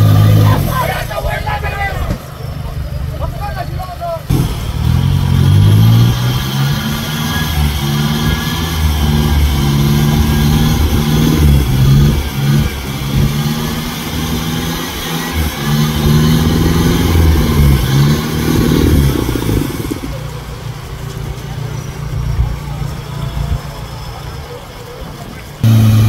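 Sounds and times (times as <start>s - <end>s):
engine revving hard: 0.0s - 2.2s, 4.2s - 24.6s, 25.6s - 26.0s.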